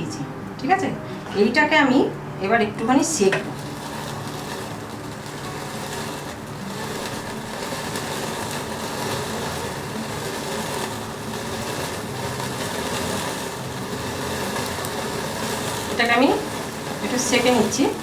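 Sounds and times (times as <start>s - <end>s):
gas stove flame rushing: 0.0s - 18.0s.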